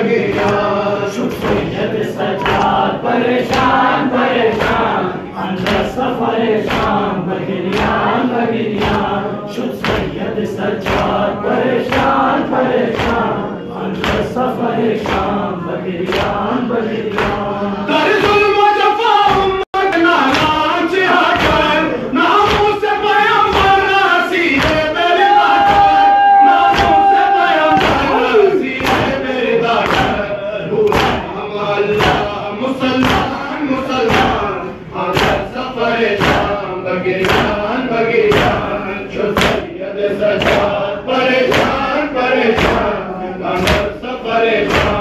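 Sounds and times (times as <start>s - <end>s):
men chanting in chorus: 0.0s - 45.0s
men slapping chests in unison: 0.0s - 45.0s.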